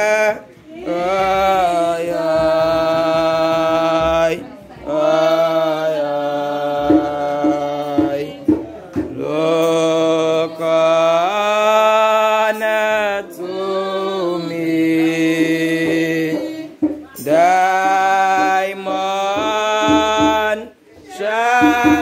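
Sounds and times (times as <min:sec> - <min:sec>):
slow hymn singing: 0:00.0 - 0:22.0.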